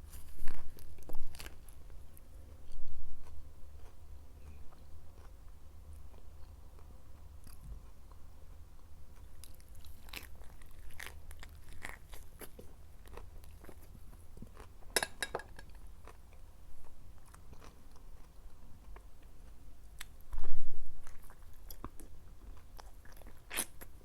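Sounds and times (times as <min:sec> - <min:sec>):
chewing crisp lettuce: 0:00.0 - 0:14.8, 0:16.0 - 0:24.0
steady low hum: 0:00.0 - 0:24.0.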